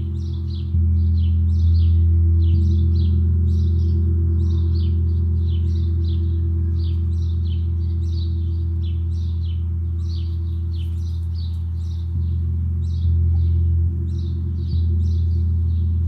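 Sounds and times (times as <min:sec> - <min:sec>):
gong ringing: 0:00.0 - 0:16.0.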